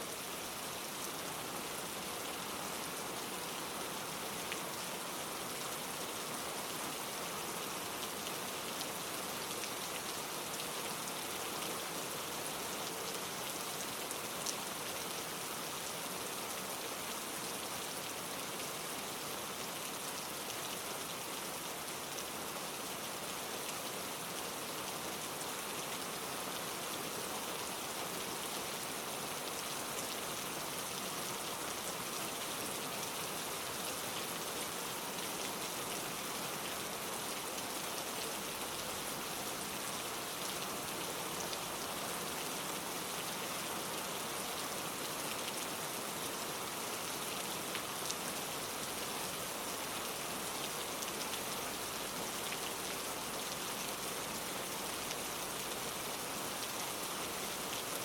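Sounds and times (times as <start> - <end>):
steady rain in a forest: 0.0 - 58.0.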